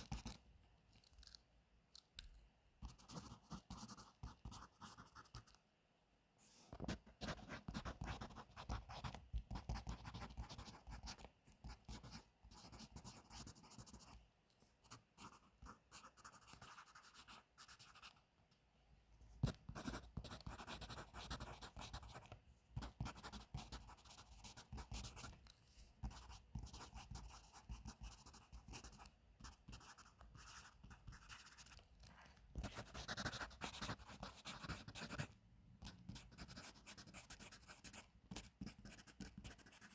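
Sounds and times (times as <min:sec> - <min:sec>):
pencil scratching on paper: 0:02.8 - 0:05.6, 0:06.5 - 0:14.2, 0:14.8 - 0:18.2, 0:19.4 - 0:25.4, 0:26.0 - 0:31.9, 0:32.5 - 0:39.9.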